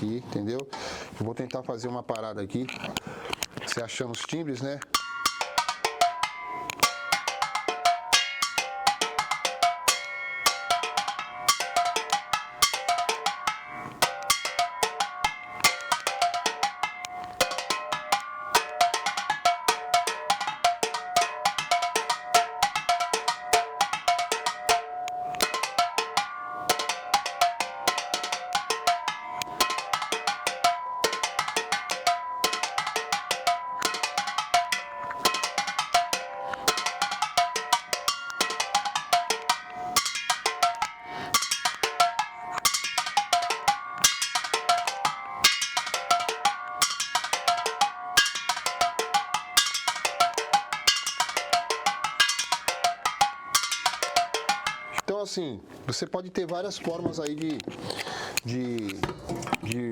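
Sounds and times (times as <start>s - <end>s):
metal cans struck like xylophone: 2.2s - 55.2s, 56.4s - 59.9s.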